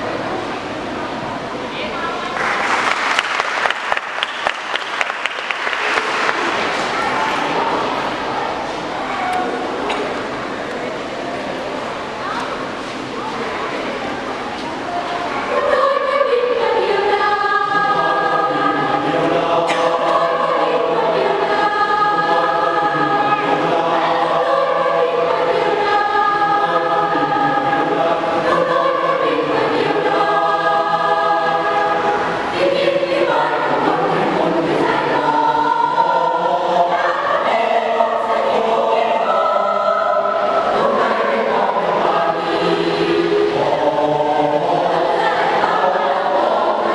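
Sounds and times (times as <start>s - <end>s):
choir singing in harmony: 0.0s - 1.6s, 2.8s - 46.9s.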